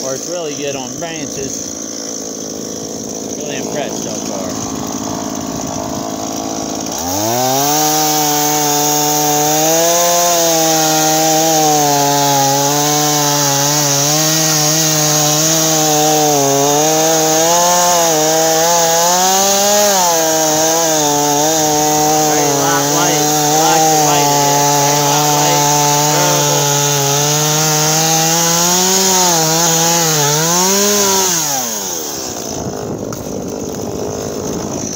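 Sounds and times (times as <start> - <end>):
chainsaw cutting log: 0.0 - 34.9.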